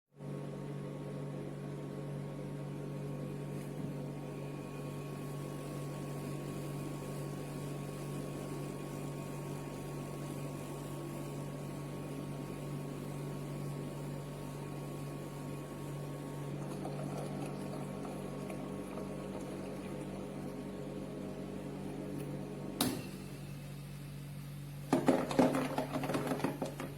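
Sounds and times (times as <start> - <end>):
ice maker humming: 0.2 - 26.9.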